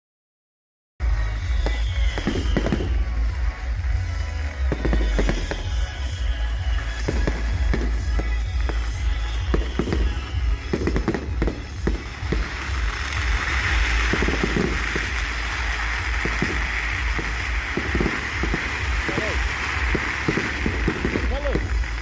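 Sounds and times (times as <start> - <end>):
fireworks bangs and pops: 1.0 - 22.0
fireworks hissing: 1.1 - 22.0.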